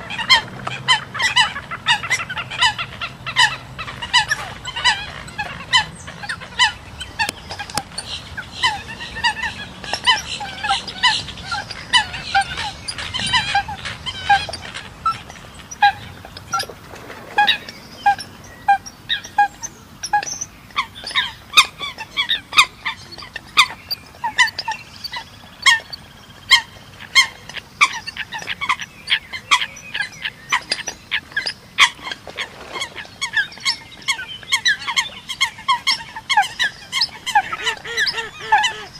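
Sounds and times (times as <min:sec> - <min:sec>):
coots calling: 0:00.0 - 0:38.9.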